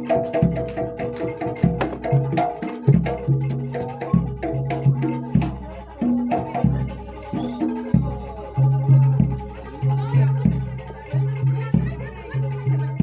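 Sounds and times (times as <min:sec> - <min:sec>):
percussion ensemble music: 0:00.0 - 0:13.0
pitched percussion notes: 0:00.0 - 0:13.0.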